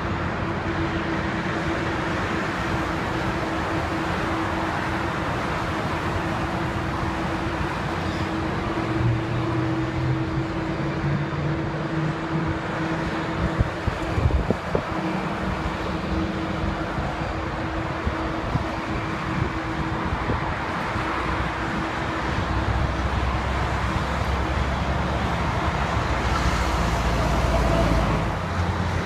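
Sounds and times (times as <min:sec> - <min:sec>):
jet engines idling: 0:00.0 - 0:29.0
low drone: 0:00.0 - 0:29.0
road traffic din: 0:00.0 - 0:29.0.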